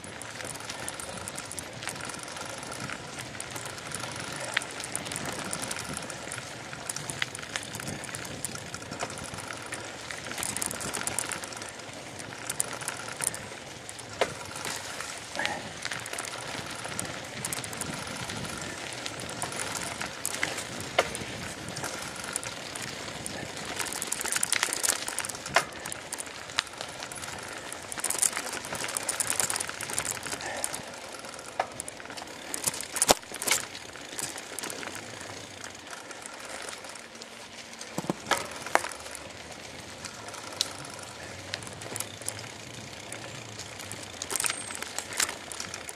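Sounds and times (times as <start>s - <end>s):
bicycle tyres on dirt path: 0.0s - 45.9s
bike rattling: 0.0s - 45.9s
clicks and knocks over bumps: 0.0s - 45.9s.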